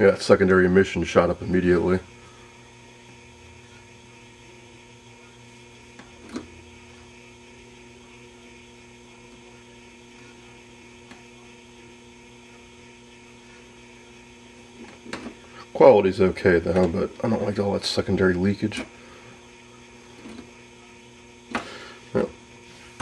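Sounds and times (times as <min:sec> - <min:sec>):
low mains hum: 0:00.0 - 0:23.0.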